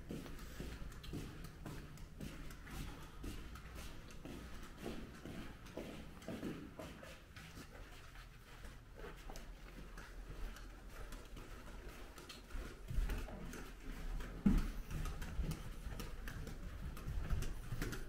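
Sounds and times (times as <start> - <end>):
footsteps on carpet: 0.0 - 18.0.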